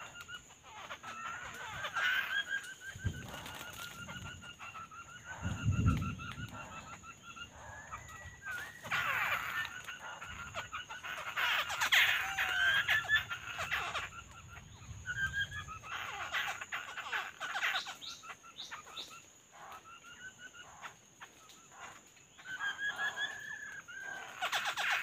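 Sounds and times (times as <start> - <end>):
high insect drone: 0.0 - 21.0
birds chirping: 0.0 - 25.0.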